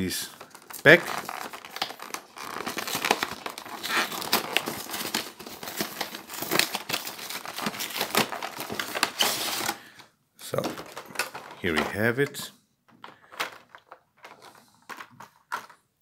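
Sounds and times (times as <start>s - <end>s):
packaging crinkling and crackling: 0.0s - 12.3s, 13.0s - 15.8s.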